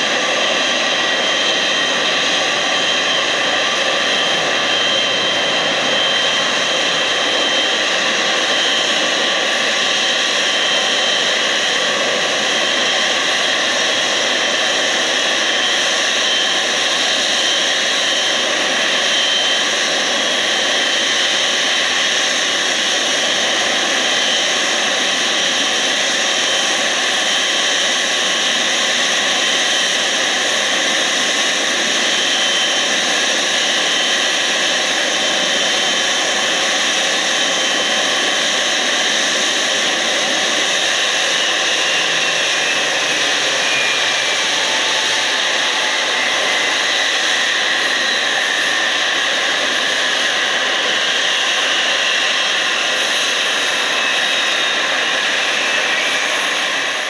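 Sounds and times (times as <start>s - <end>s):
jet engines roaring with whine: 0.0s - 57.0s.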